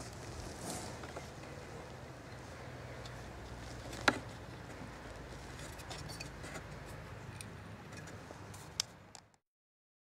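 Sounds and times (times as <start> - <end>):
handling ticks and rustles: 0.0 - 9.3.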